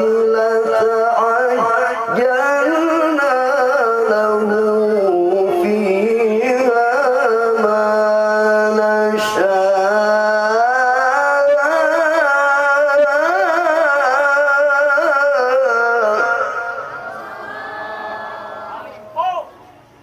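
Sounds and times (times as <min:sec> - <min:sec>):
man reciting melodically: 0:00.0 - 0:17.1.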